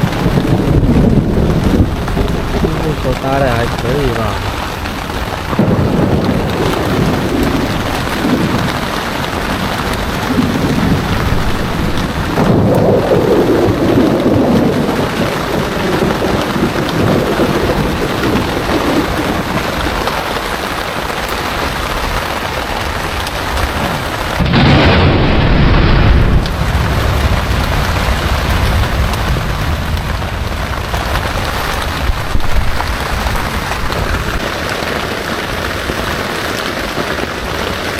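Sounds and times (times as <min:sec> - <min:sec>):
heavy rain pouring: 0:00.0 - 0:37.9
thunder rumbling: 0:00.0 - 0:37.9.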